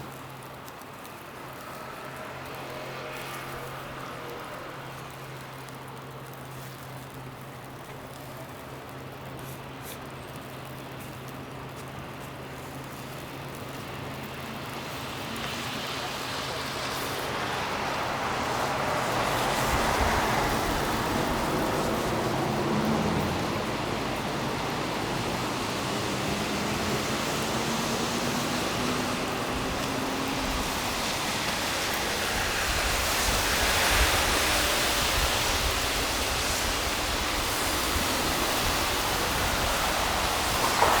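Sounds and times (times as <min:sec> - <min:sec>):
cars passing on snow: 0:00.0 - 0:41.0.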